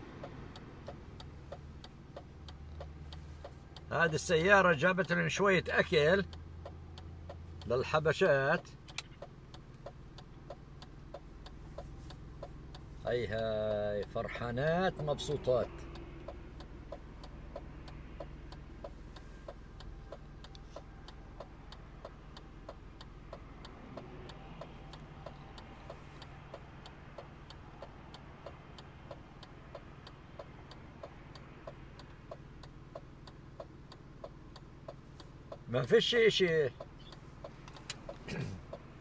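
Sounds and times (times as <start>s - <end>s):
car engine idling hum: 0.0s - 39.0s
turn signal clicking: 0.0s - 39.0s.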